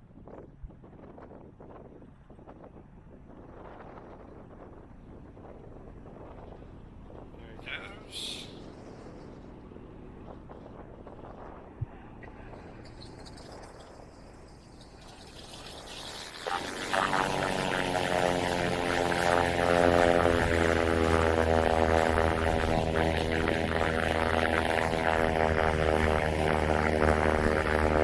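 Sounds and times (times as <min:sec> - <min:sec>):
propeller aircraft drone: 0:00.0 - 0:28.0.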